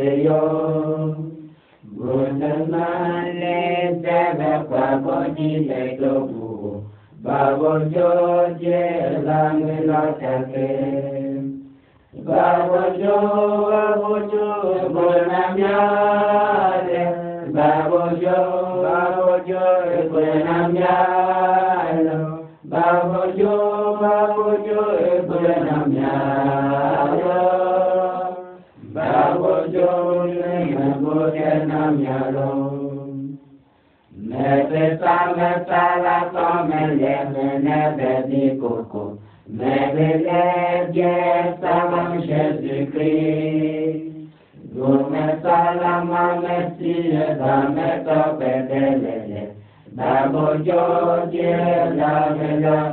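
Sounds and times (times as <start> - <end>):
chanted singing: 0.0 - 33.5, 34.1 - 52.9.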